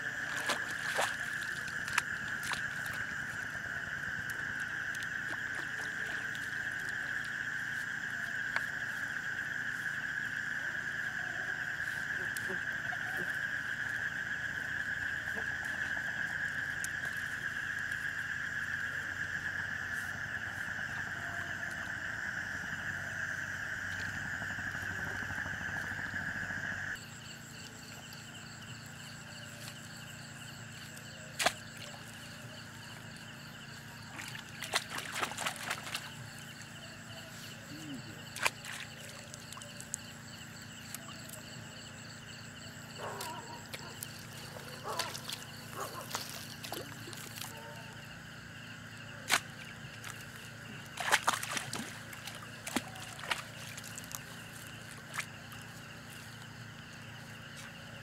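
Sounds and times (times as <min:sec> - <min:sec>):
night insects chorus: 0:00.0 - 0:58.0
pulsing insect chorus: 0:00.0 - 0:58.0.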